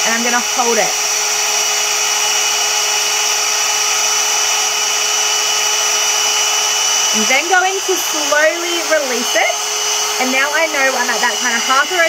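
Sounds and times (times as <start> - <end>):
hair dryer air rushing: 0.0 - 12.0
motor whine: 0.0 - 12.0.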